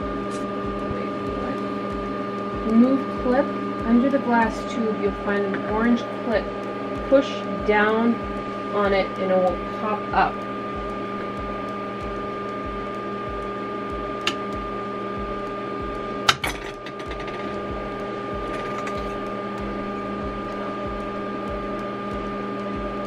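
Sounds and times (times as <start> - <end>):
laser cutter humming: 0.0 - 23.0.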